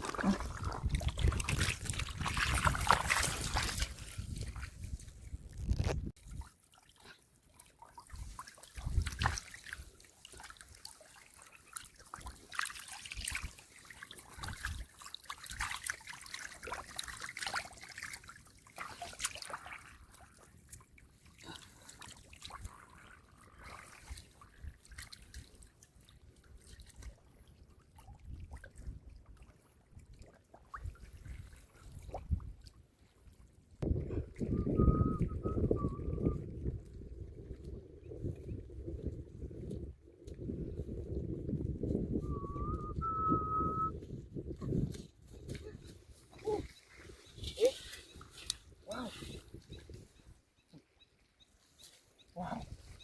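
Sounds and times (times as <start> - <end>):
muddy water splashing: 0.0 - 53.0.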